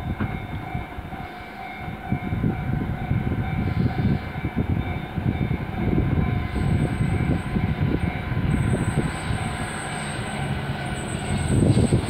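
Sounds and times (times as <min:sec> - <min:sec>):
locomotive engine drone: 0:00.0 - 0:12.0
low train rumble: 0:00.0 - 0:12.0.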